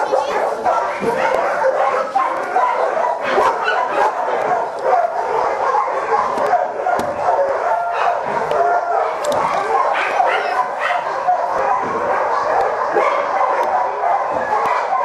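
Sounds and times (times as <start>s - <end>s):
many dogs barking and whining: 0.0s - 15.0s.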